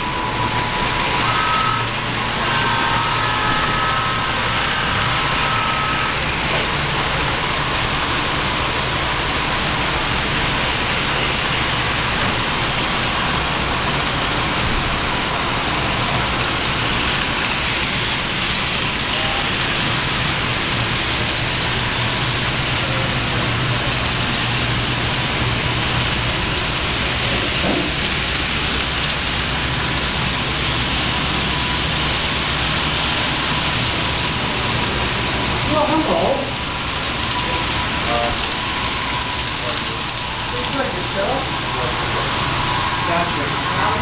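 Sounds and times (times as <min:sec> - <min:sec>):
model train wheels rumbling on track: 0:00.0 - 0:44.0.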